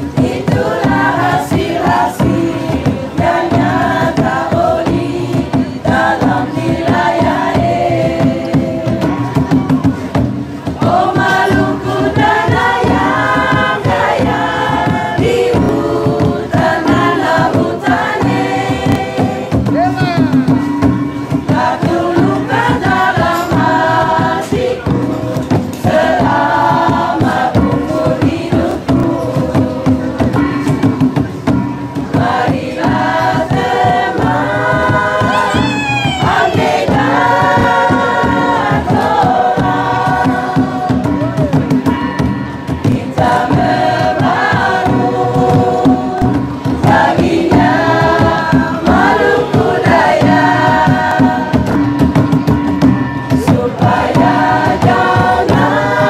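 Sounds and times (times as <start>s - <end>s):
women singing in chorus: 0.0s - 19.8s, 21.2s - 31.2s, 32.0s - 56.0s
hand drums beating: 0.0s - 56.0s.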